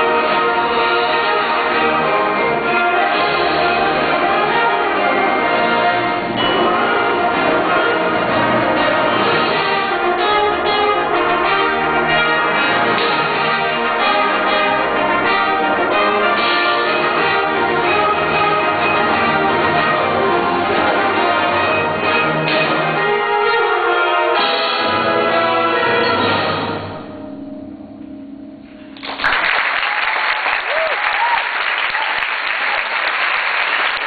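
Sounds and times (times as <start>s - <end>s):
symphonic band playing: 0.0s - 29.5s.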